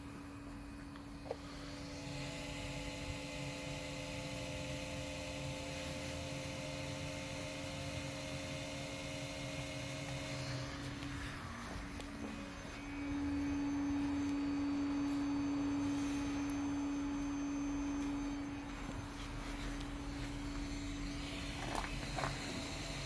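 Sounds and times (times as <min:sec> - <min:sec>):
electronic hum and whine: 0:00.0 - 0:23.0.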